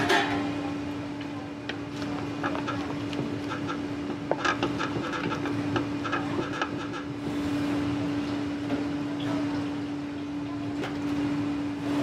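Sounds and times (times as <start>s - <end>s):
clinks and clatter of cooking: 0.0s - 11.2s
steady droning hum: 0.0s - 12.0s.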